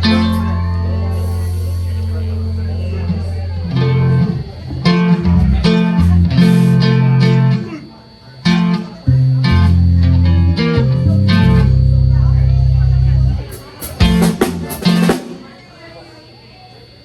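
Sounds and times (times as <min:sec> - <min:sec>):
sustained bass notes: 0:00.0 - 0:07.8, 0:08.4 - 0:15.5
electric guitar strumming chords: 0:00.0 - 0:15.5.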